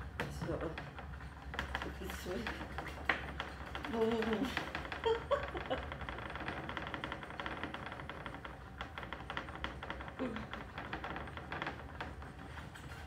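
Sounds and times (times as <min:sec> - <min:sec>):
vibration machine humming and rattling: 0:00.0 - 0:13.0.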